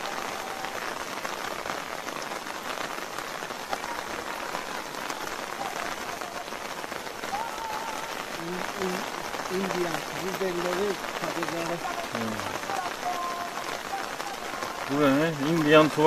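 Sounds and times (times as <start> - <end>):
steady rain on wet paving: 0.0 - 16.0.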